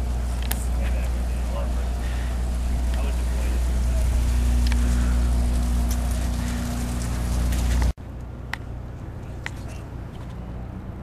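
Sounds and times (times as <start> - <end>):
boat engine idling: 0.0 - 10.7.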